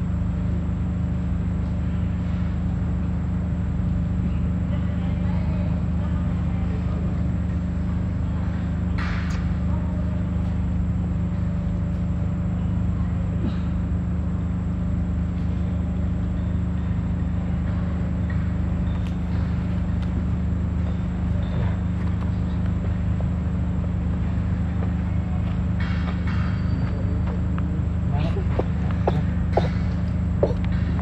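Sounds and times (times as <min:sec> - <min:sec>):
engine low drone: 0:00.0 - 0:31.0.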